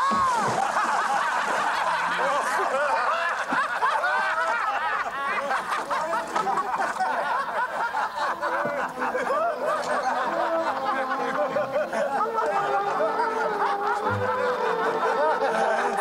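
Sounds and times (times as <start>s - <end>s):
men laughing: 0.0s - 16.0s.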